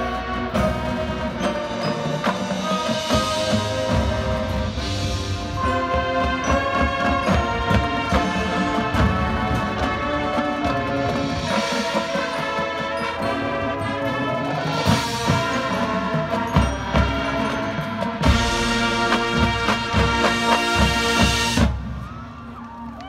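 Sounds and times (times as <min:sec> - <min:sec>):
brass band chords: 0:00.0 - 0:22.0.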